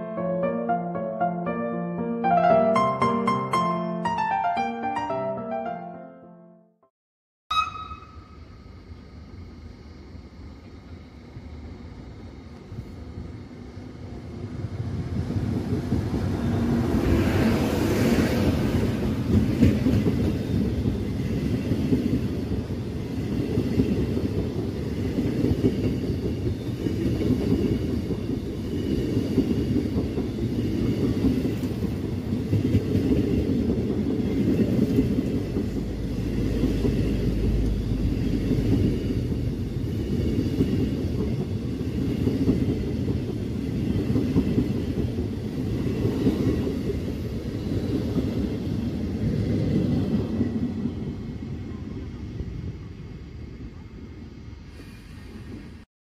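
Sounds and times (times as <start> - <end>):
electric locomotives passing: 7.5 - 55.8
train coaches rumbling on rails: 9.6 - 55.8.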